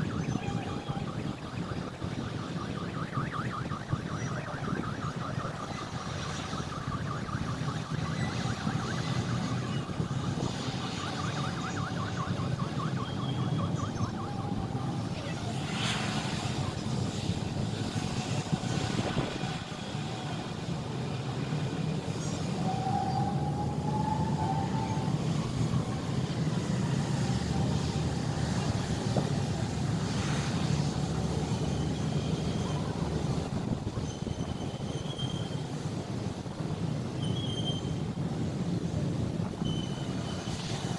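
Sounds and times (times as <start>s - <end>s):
faint engine whine: 0.0s - 40.9s
jet engines rumbling: 0.0s - 40.9s.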